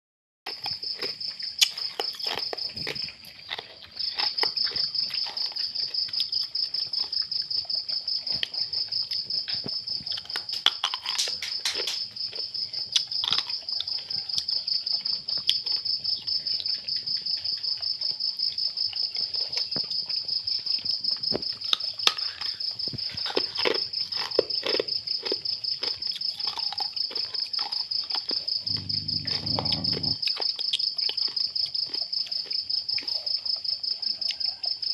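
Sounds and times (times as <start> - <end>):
cricket chirping: 0.5 - 34.9
puppies eating from plastic bowl: 0.7 - 34.5.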